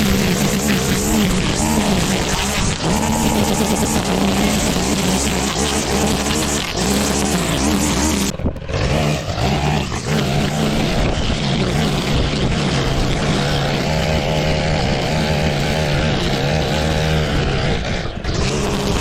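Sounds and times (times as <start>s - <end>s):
small petrol engine cutting grass: 0.0s - 19.0s.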